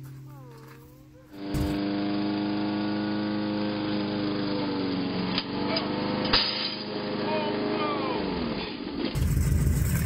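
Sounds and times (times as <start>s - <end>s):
lawn mower engine running: 0.0s - 10.0s.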